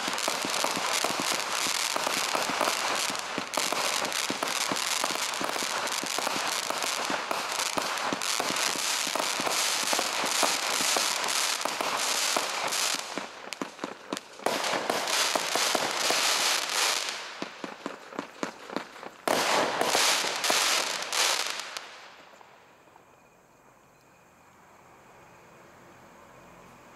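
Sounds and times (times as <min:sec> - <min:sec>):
fireworks crackling and popping: 0:00.0 - 0:23.3.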